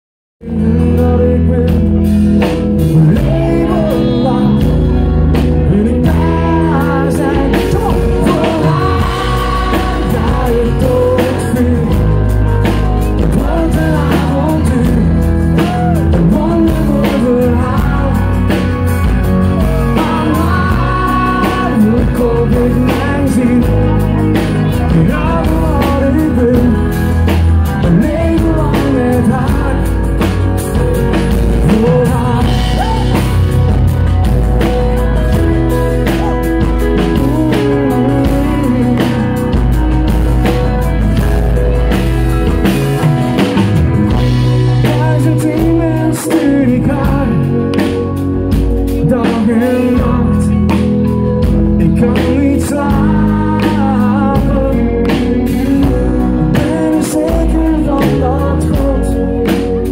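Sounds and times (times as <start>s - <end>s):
man singing into a microphone: 0.4s - 34.2s, 34.9s - 41.0s, 44.1s - 59.9s
live pop-rock band: 0.4s - 59.9s.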